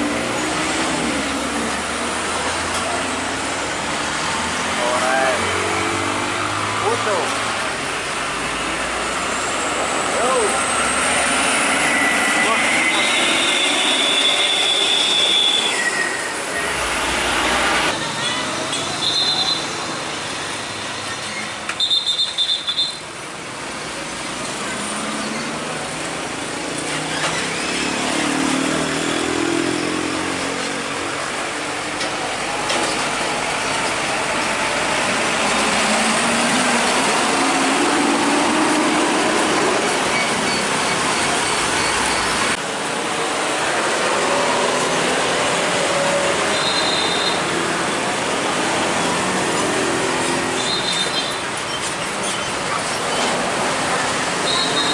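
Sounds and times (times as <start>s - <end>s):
diesel truck engines: 0.0s - 54.9s
road traffic: 0.0s - 54.9s.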